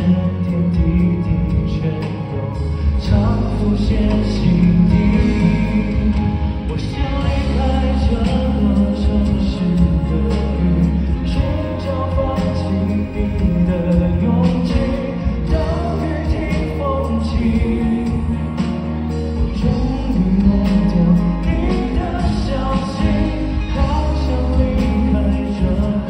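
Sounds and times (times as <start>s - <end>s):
live band playing: 0.0s - 26.0s
man singing into a microphone: 0.0s - 26.0s.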